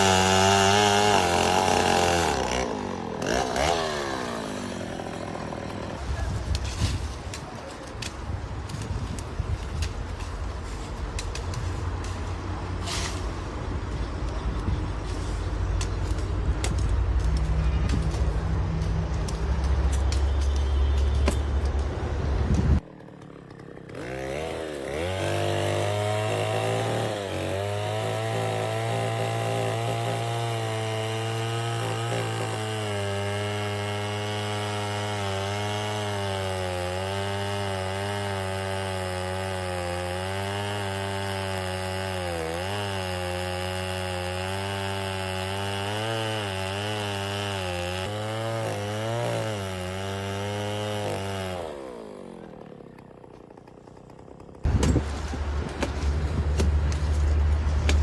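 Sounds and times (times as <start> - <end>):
chainsaw sawing wood: 0.0 - 13.5, 15.0 - 58.0.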